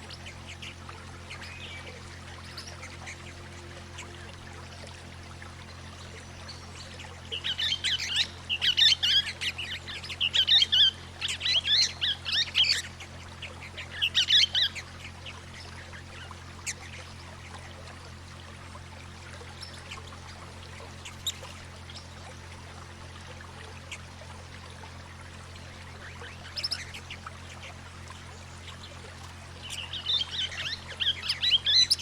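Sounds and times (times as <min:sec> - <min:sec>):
faint trickle of water: 0:00.0 - 0:32.0
steady low hum: 0:00.0 - 0:32.0.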